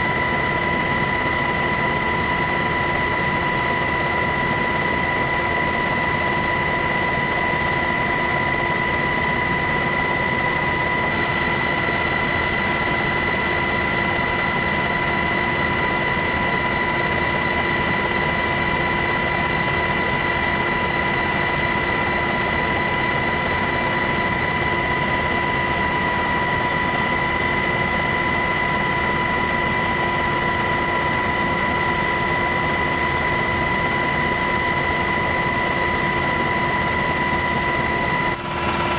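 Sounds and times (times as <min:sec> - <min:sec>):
constant whining tones: 0:00.0 - 0:38.9
helicopter cabin noise: 0:00.0 - 0:38.9.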